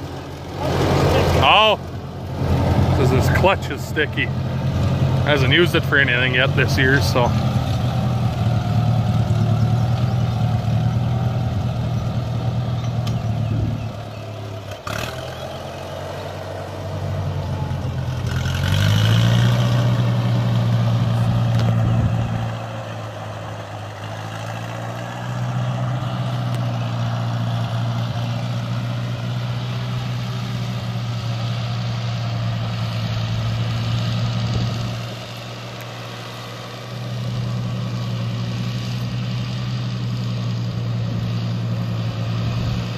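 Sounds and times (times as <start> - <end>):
farm vehicle engine revving: 0.0 - 42.9.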